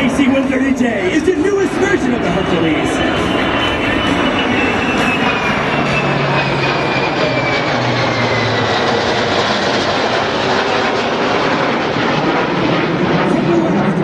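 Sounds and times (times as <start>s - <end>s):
aircraft formation flying past: 0.0s - 14.0s
high jet whine: 0.0s - 14.0s.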